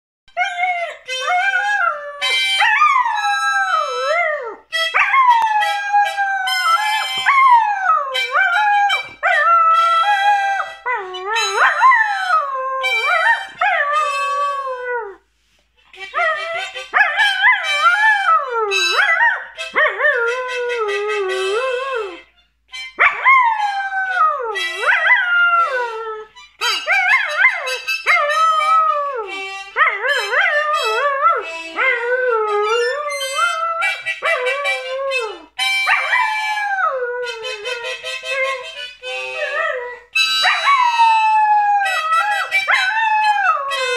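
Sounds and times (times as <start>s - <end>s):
dog howling: 0.4s - 15.2s, 16.1s - 20.4s, 23.0s - 38.7s, 39.3s - 43.9s.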